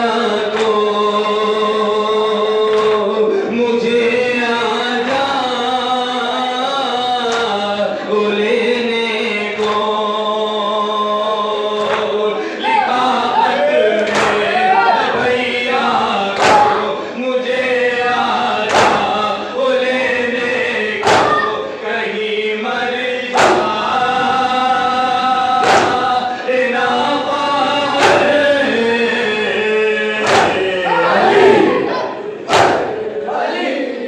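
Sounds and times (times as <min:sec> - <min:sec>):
men chanting in unison: 0:00.0 - 0:34.0.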